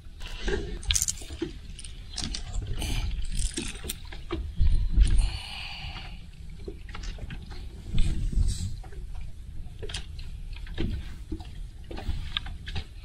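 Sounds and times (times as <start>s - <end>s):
water lapping against boat hull: 0.0s - 13.0s
wind rumbling on microphone: 0.0s - 13.0s.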